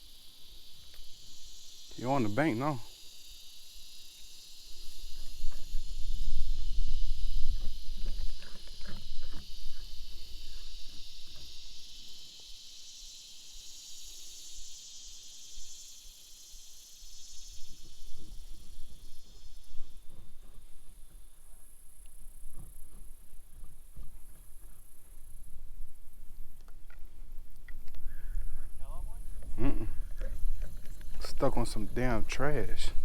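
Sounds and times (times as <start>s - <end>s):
insects buzzing chorus: 0.0s - 33.0s.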